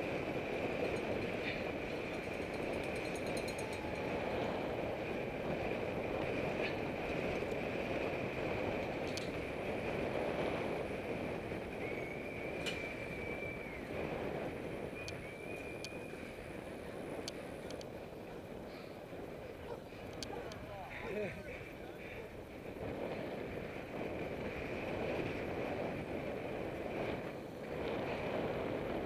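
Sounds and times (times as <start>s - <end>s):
bike tyres humming on asphalt: 0.0s - 29.0s
wind rushing over microphone: 0.0s - 29.0s.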